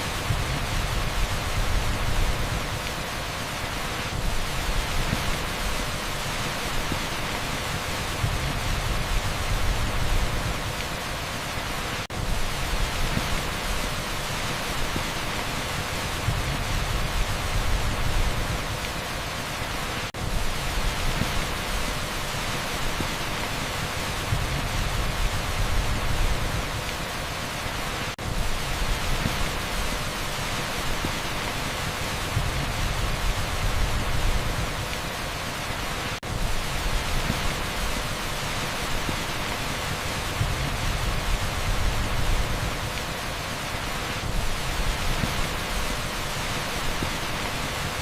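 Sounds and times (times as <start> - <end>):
heavy rain on a street: 0.0 - 48.0.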